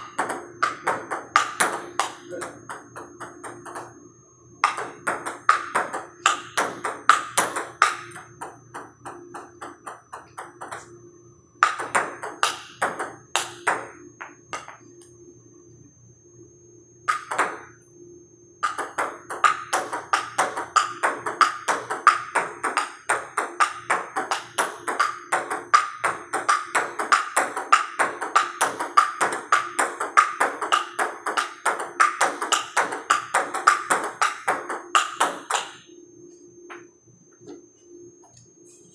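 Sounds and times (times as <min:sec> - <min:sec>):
ping-pong ball clicking: 0:00.0 - 0:03.9, 0:04.6 - 0:10.9, 0:11.6 - 0:15.1, 0:17.1 - 0:17.7, 0:18.6 - 0:35.9.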